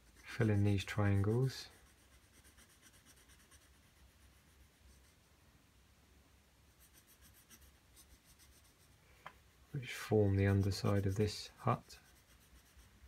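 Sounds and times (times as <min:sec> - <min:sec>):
pencil scratching on paper: 0:00.0 - 0:05.2, 0:06.7 - 0:09.0, 0:09.8 - 0:13.0.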